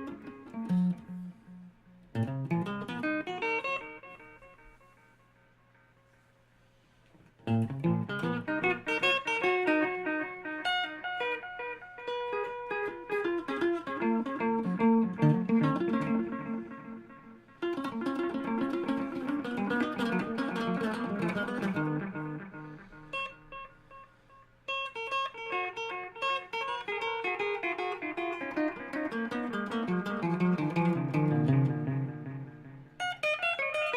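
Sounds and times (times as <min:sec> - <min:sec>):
electric guitar with reverb: 0:00.0 - 0:06.4, 0:07.3 - 0:33.9.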